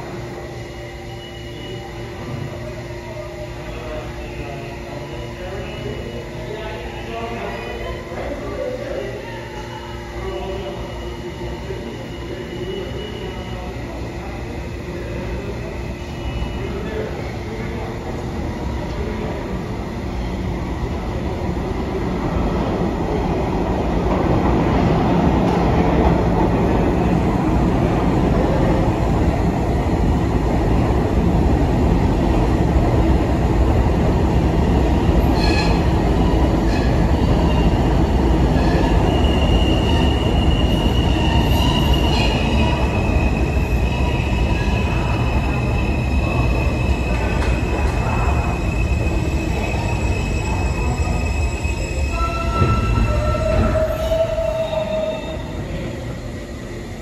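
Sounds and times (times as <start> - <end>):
subway train rumbling: 0.0 - 57.0.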